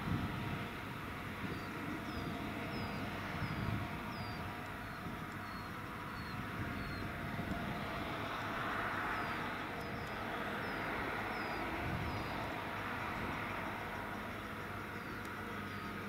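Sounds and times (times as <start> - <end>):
forage harvester machinery drone: 0.0 - 16.0.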